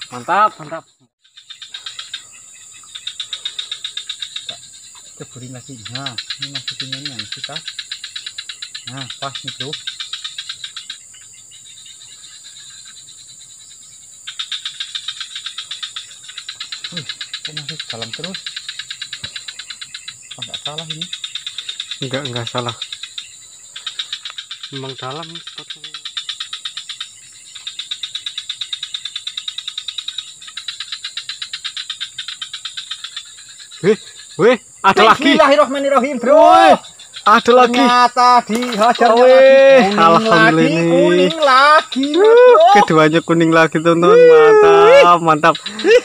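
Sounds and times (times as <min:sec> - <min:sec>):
rapid animal chirping: 0:00.0 - 0:46.0.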